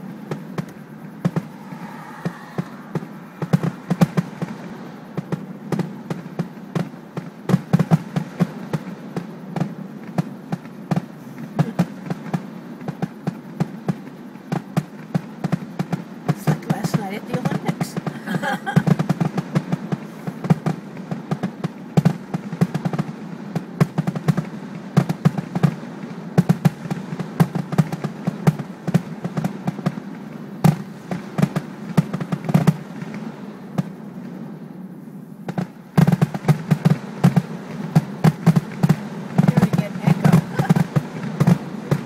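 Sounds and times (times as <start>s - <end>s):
fireworks crackling and banging: 0.0s - 42.0s.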